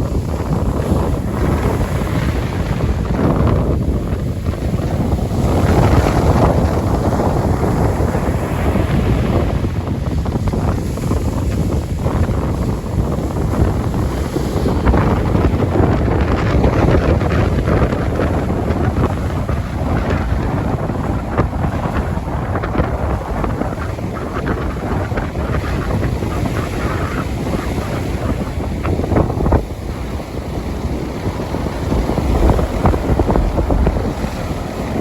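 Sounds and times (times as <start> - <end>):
ocean waves on beach: 0.0 - 35.0
wind buffeting microphone: 0.0 - 35.0.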